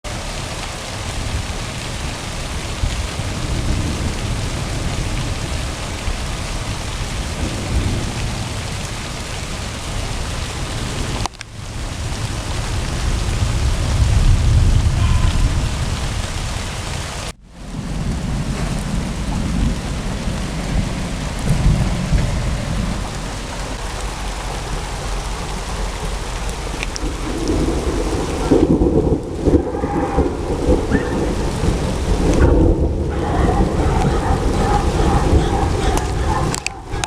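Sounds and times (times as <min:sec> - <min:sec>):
steady rain: 0:00.0 - 0:37.0
rolling thunder: 0:00.1 - 0:37.0.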